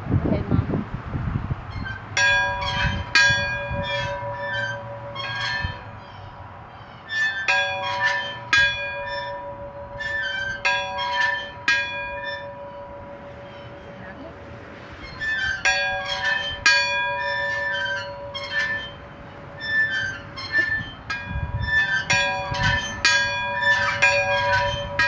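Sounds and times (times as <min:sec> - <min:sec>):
church bell ringing: 0:02.2 - 0:06.2, 0:07.1 - 0:14.3, 0:15.0 - 0:25.0.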